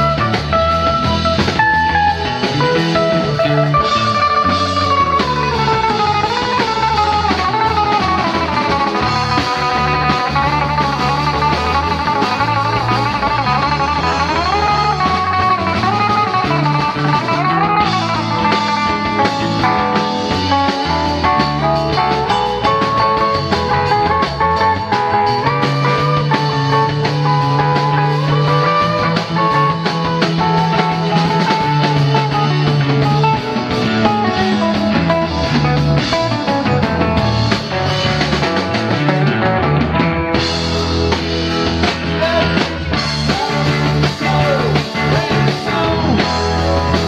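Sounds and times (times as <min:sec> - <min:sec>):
electric guitar lead: 0:00.0 - 0:47.0
rock band playing: 0:00.0 - 0:47.0.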